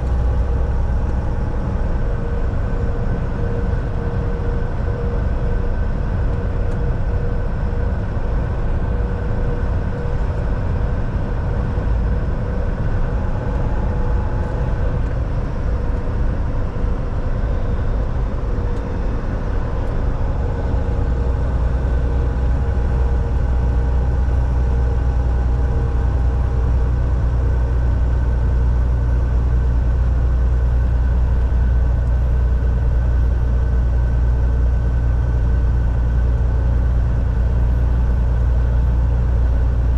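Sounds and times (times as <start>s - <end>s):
road noise: 0.0s - 33.1s
truck engine drone: 0.0s - 39.9s.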